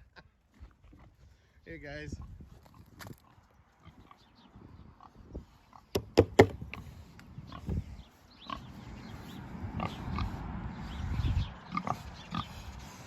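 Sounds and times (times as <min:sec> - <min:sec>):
farm animals calling: 0:00.0 - 0:13.0.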